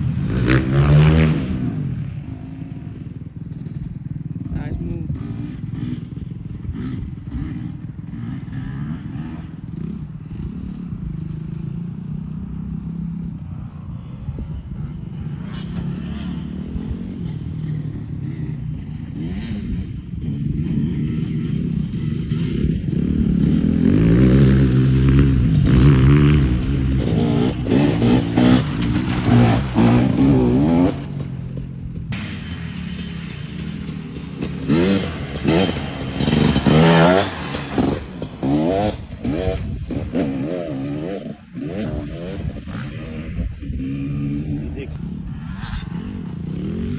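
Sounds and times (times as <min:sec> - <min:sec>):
motocross bike engine revving: 0:00.0 - 0:46.9.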